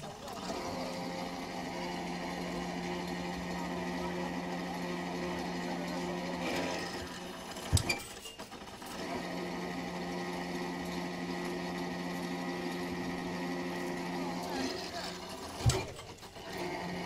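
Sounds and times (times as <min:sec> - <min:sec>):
winch motor running: 0:00.0 - 0:17.0.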